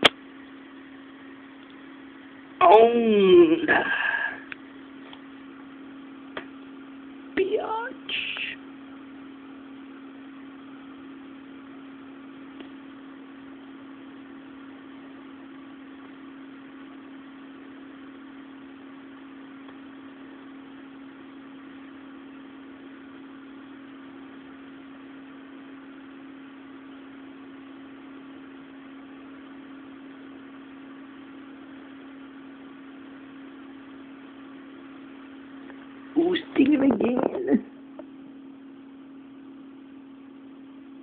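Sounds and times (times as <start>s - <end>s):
machine hum: 0.0s - 41.0s.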